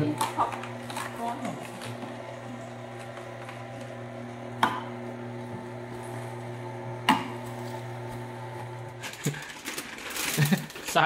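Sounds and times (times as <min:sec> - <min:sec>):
juicer motor humming: 0:00.0 - 0:11.0.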